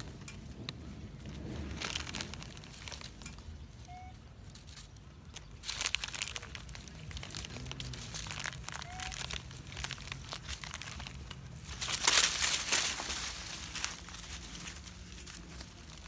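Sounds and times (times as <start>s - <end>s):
plastic snack bag crinkling: 0.0s - 16.0s.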